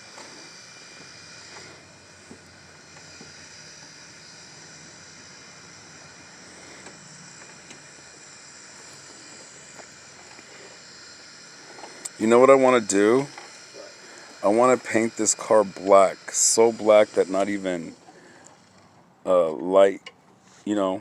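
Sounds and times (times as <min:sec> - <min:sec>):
background hiss: 0:00.0 - 0:21.0
thin high whine: 0:00.0 - 0:21.0.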